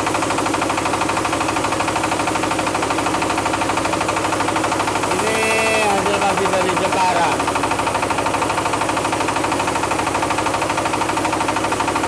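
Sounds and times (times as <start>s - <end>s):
rice milling machine running: 0.0s - 12.0s
rice pouring from chute: 0.0s - 12.0s.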